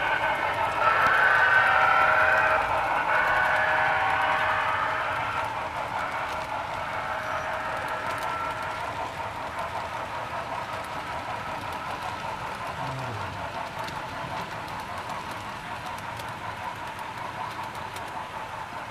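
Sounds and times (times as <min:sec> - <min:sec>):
model train rolling whir: 0:00.0 - 0:18.9.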